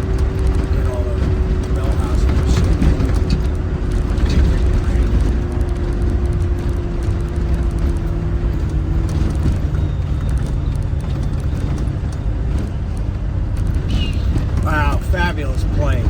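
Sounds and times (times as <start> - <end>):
drivetrain whine: 0.0 - 16.0
off-road vehicle engine rumble: 0.0 - 16.0.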